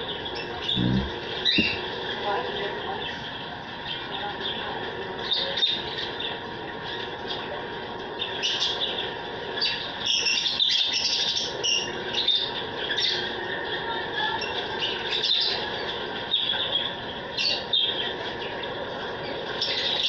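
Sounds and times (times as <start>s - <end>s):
birds chirping and chattering: 0.0s - 20.0s.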